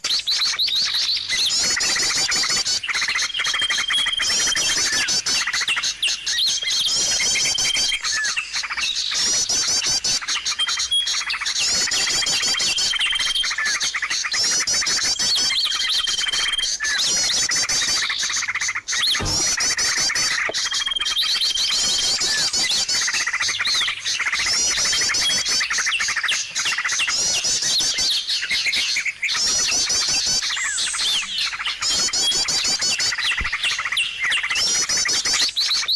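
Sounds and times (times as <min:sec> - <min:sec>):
small songbirds chirping: 0:00.0 - 0:35.9.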